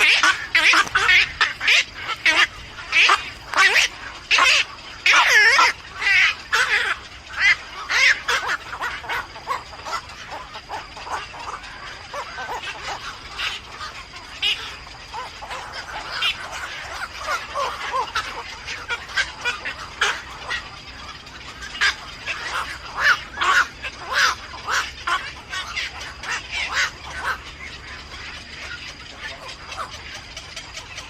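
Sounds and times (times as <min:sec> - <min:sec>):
nestling birds calling: 0:00.0 - 0:31.0.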